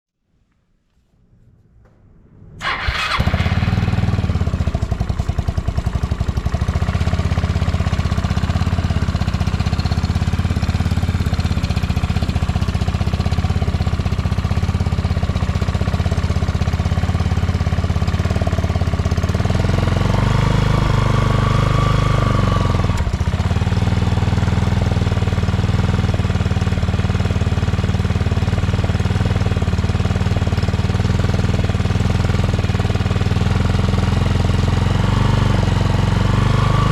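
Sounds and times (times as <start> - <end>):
scooter engine idling and revving: 2.6 - 36.9.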